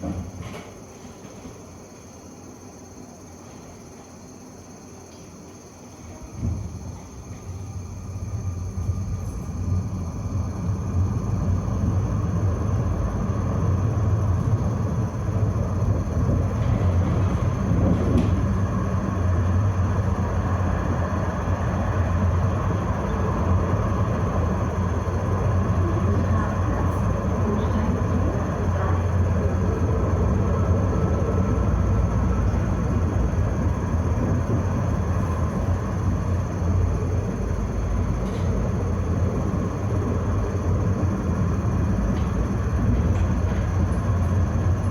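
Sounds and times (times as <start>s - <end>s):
tram wheels rumbling on rails: 0.0s - 4.4s, 5.1s - 44.9s.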